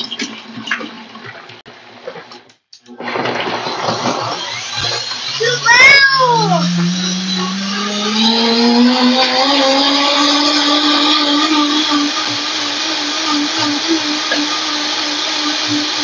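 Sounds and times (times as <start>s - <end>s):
blender motor whirring: 3.0s - 16.0s.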